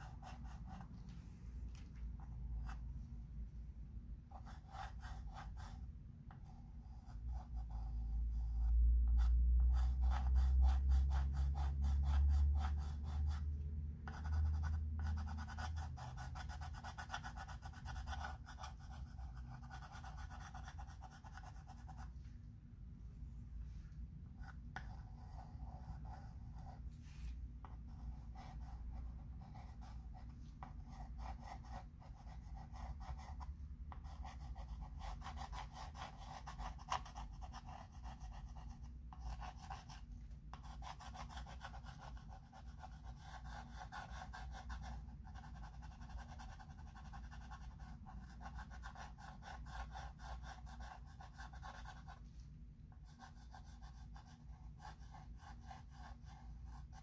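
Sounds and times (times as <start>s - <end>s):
low steady hum: 0.0s - 57.0s
chalk scratching on chalkboard: 4.3s - 22.2s, 24.4s - 52.3s, 52.9s - 57.0s.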